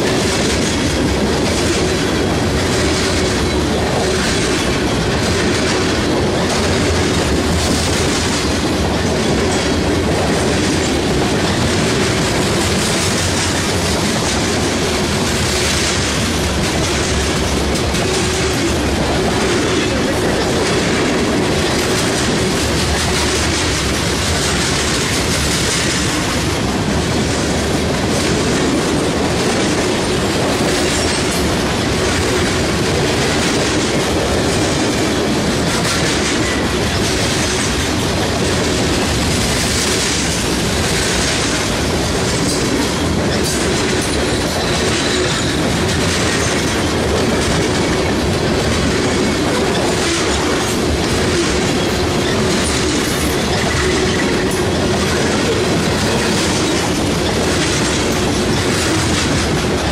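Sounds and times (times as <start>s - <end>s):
train wheels rushing on rail: 0.0s - 59.9s
wheels clacking over rail joints: 0.0s - 59.9s.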